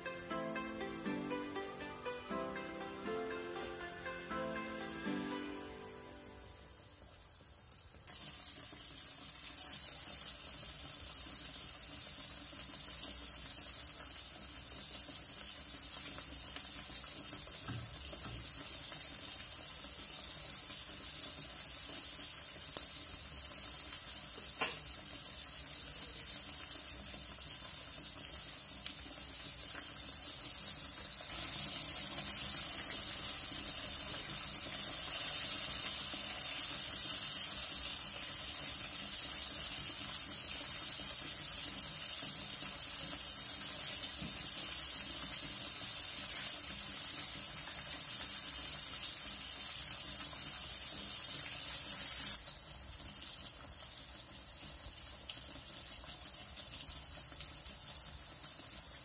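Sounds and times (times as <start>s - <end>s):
meat sizzling in hot oil: 6.2s - 59.0s.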